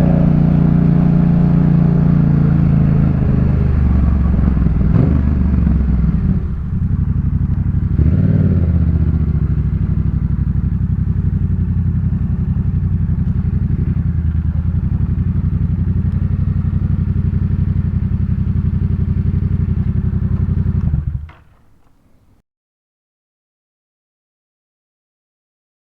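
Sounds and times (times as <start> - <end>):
motorcycle engine revving and idling: 0.0 - 21.8.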